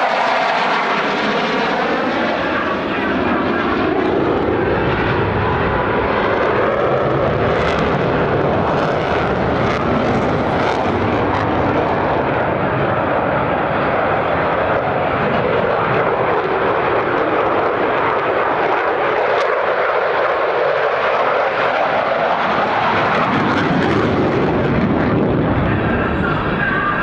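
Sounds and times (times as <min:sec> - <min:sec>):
fighter jet passing: 0:00.0 - 0:27.0.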